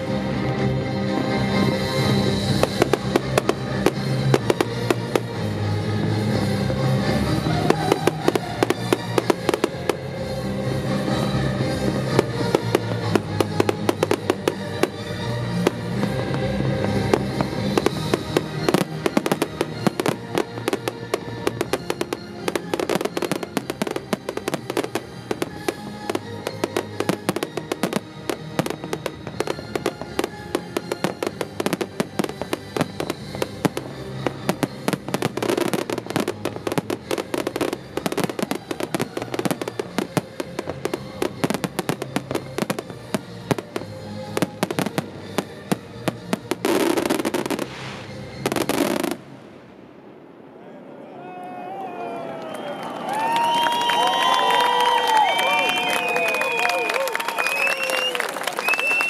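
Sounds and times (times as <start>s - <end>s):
music: 0.0s - 49.5s, 52.6s - 59.0s
fireworks bangs and crackles: 0.0s - 51.8s, 53.0s - 59.0s.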